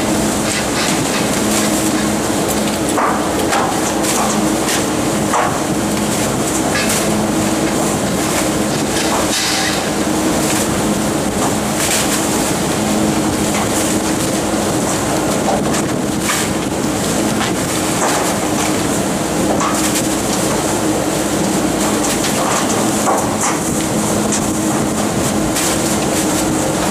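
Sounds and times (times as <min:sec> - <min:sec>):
garbage truck packer humming: 0:00.0 - 0:26.9.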